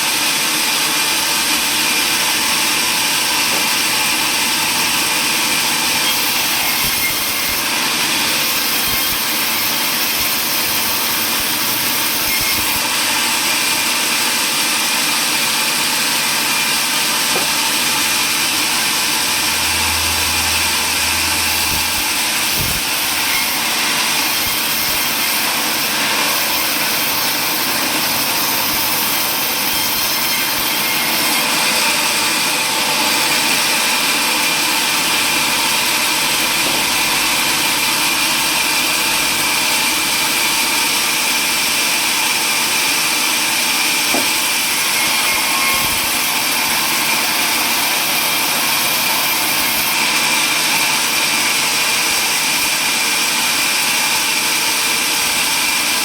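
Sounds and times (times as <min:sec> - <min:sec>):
power saw cutting wood: 0:00.0 - 0:56.0.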